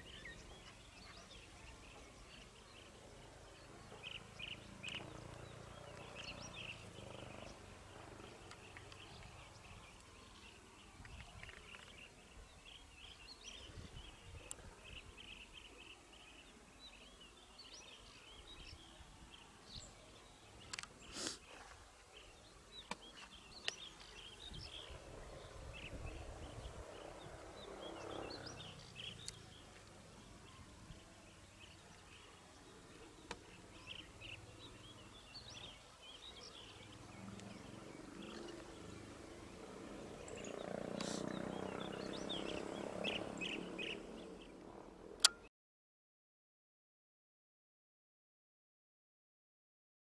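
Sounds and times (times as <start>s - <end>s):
birds chirping: 0.0s - 45.4s.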